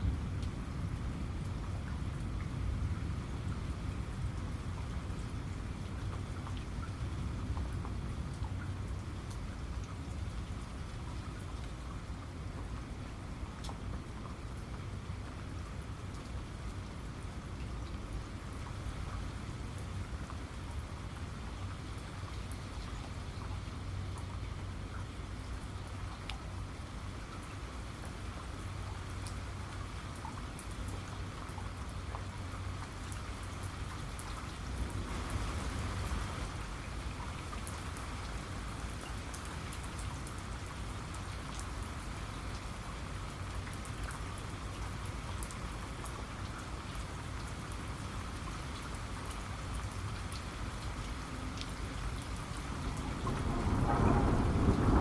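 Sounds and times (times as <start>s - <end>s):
steady rain falling: 0.0s - 55.0s
close raindrops ticking: 0.1s - 55.0s.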